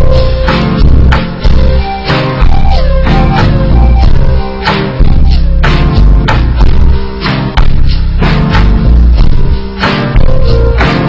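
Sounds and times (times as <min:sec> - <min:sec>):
loud guitar music with beat: 0:00.0 - 0:11.0.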